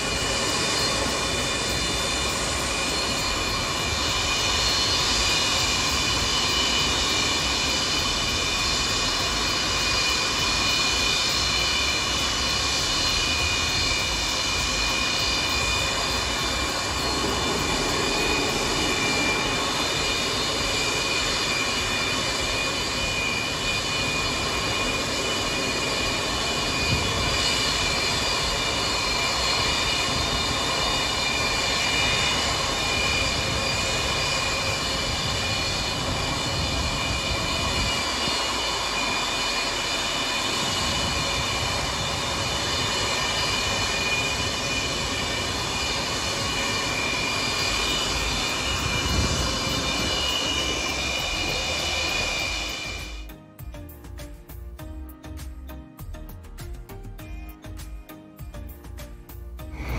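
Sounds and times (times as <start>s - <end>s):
jet engine rushing roar: 0.0s - 56.1s, 59.6s - 59.9s
jet engines turbine whine: 0.0s - 59.9s.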